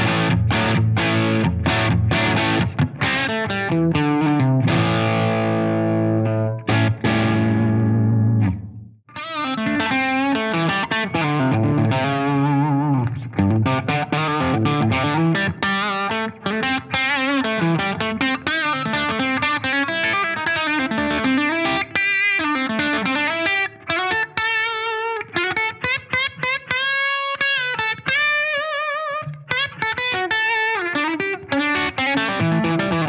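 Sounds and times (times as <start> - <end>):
electric guitar licks: 0.0 - 33.0.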